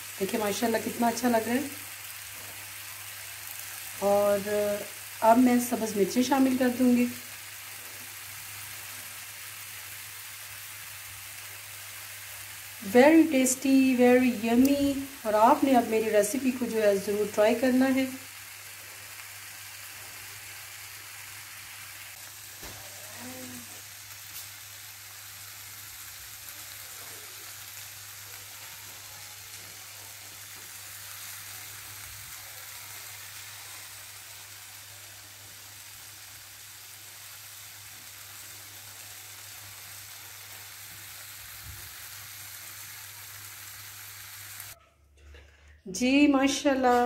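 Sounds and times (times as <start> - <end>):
chicken sizzling in pan: 0.0 - 44.8.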